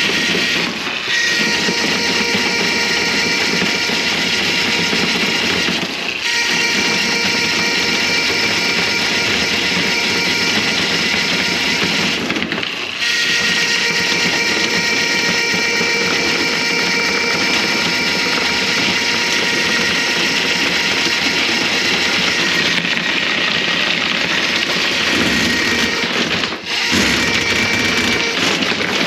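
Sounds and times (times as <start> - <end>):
machine motor whining: 0.0 - 29.0.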